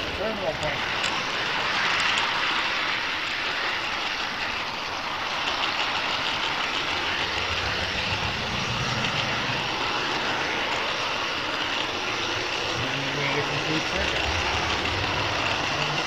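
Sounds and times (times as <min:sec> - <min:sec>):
model train motor whirring on rails: 0:00.0 - 0:16.0.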